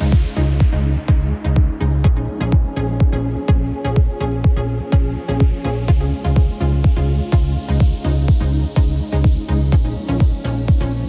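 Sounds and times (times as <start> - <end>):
electronic music: 0.0 - 11.0
kick drum beating: 0.0 - 11.0.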